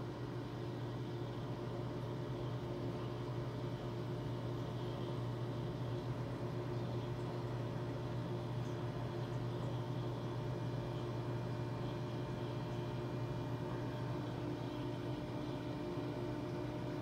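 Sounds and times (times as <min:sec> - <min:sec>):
aquarium pumps humming and hissing: 0:00.0 - 0:17.0.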